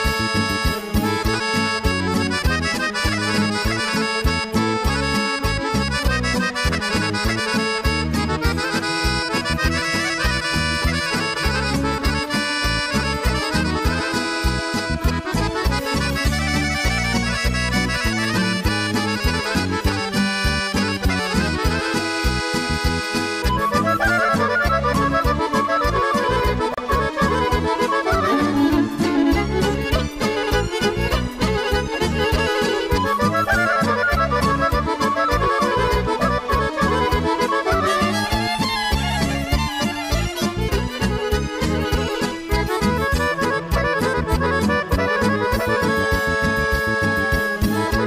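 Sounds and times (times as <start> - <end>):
accordion melody: 0.0 - 48.0
bass and keyboard backing: 0.0 - 48.0.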